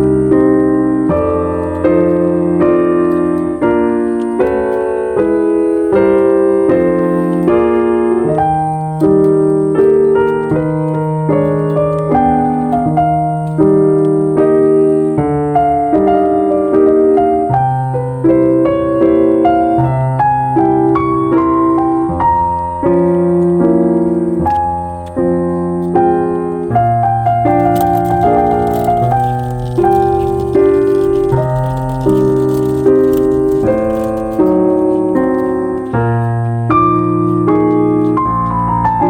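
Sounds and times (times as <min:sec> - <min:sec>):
calm piano music: 0:00.0 - 0:39.0.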